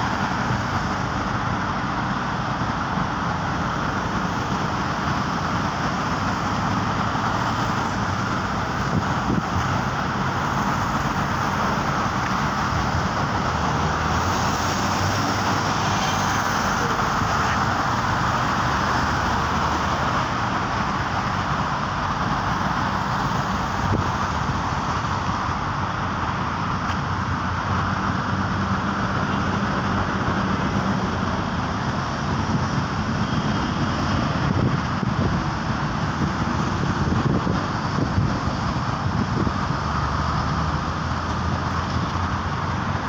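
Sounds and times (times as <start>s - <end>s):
cars passing: 0.0s - 43.0s.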